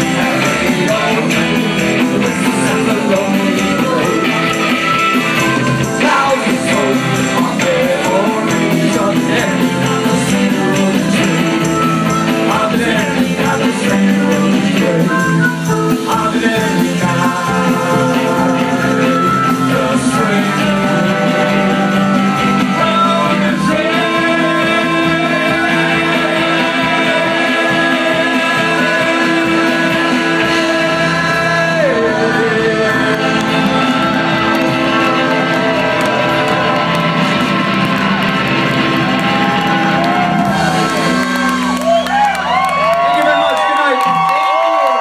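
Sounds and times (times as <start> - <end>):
crowd whooping and cheering: 0.0 - 16.3, 17.0 - 45.0
person singing: 0.0 - 38.0
live rock and roll band: 0.0 - 45.0.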